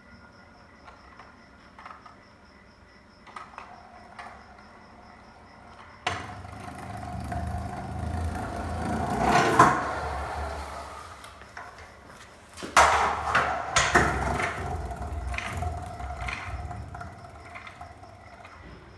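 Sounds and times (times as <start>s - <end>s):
scooter wheels rolling on concrete: 0.8s - 18.9s.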